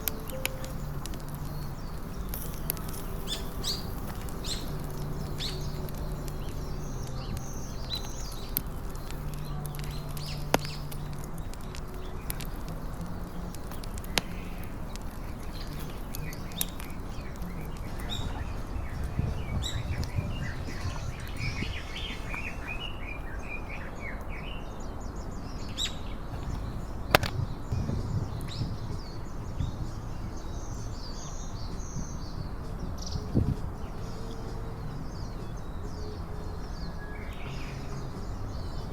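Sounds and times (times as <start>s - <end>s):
low outdoor rumble: 0.0s - 25.3s, 26.2s - 38.9s
small birds chirping: 0.0s - 38.9s.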